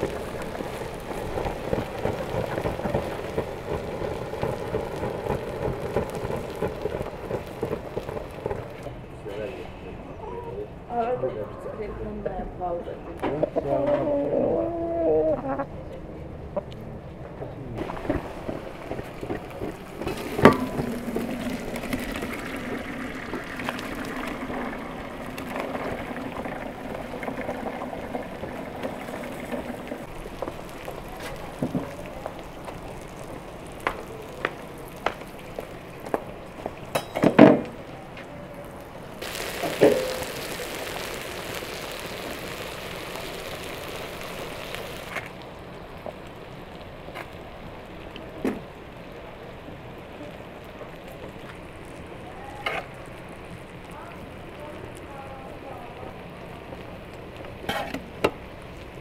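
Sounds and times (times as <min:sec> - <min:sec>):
food sizzling: 0:00.0 - 0:09.0, 0:17.8 - 0:59.0.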